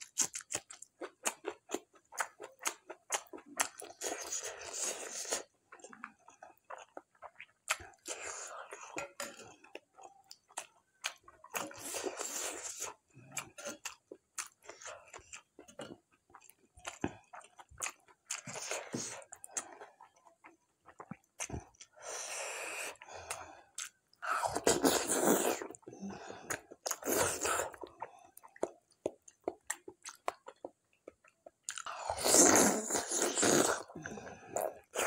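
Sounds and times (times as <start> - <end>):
chewing food: 0.0 - 35.0.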